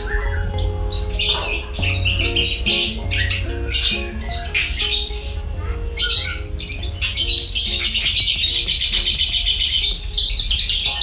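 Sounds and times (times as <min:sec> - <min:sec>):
bird singing high twittering song: 0:00.0 - 0:11.0.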